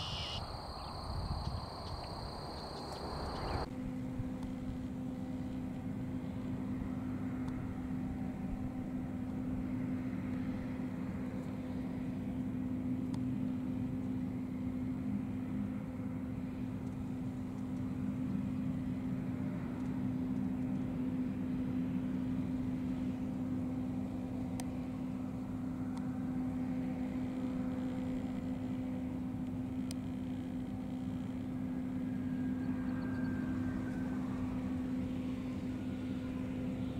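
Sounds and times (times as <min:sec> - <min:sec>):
jet engines idling: 0:00.0 - 0:36.9.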